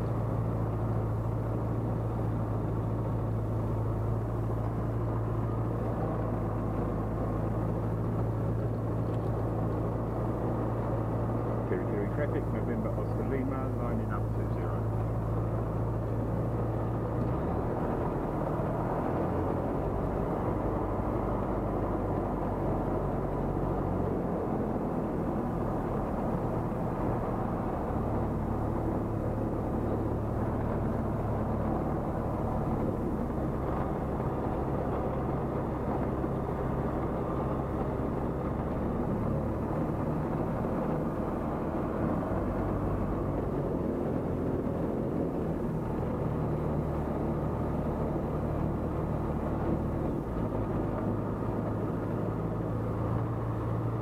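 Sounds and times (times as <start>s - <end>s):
propeller aircraft engine running: 0.0s - 54.0s.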